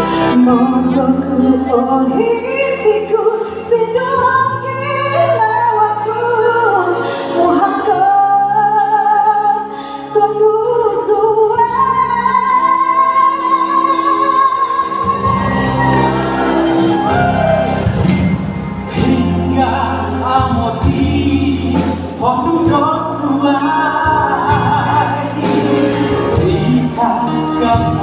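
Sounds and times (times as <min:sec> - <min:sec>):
instrumental backing: 0:00.0 - 0:28.0
person singing a slow ballad: 0:00.0 - 0:28.0.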